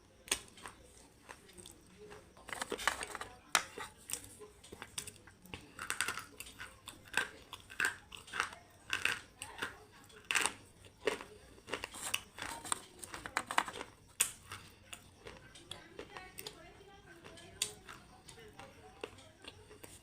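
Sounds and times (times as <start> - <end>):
brittle crunches of chewing: 0.0 - 20.0.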